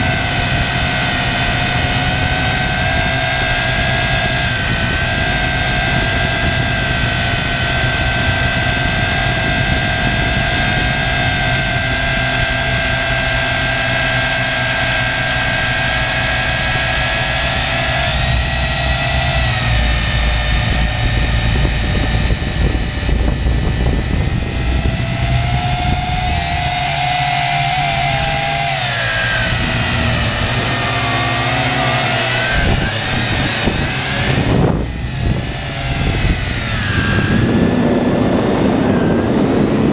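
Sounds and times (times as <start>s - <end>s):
drone propellers whining: 0.0s - 39.9s
low rush of wind: 0.0s - 39.9s.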